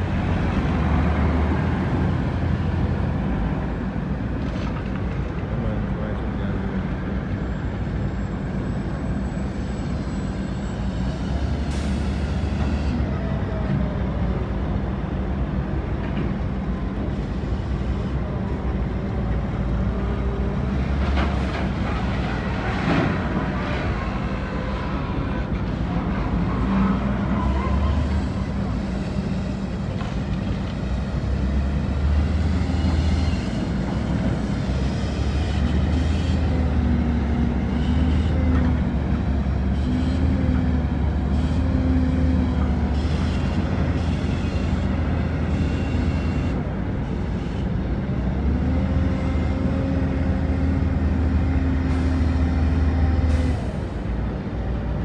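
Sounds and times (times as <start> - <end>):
heavy diesel machinery engine drone: 0.0 - 55.0.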